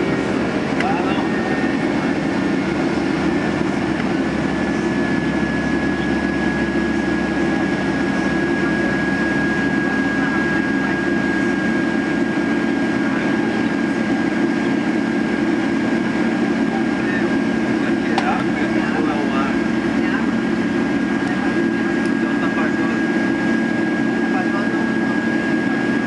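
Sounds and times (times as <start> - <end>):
aircraft cabin low rumble: 0.0 - 26.0
high engine whine: 0.0 - 26.0.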